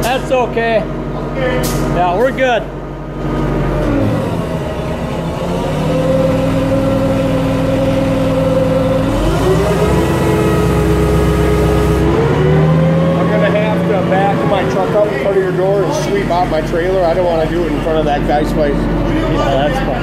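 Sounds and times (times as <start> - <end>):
machine engine running under load: 0.0 - 20.0.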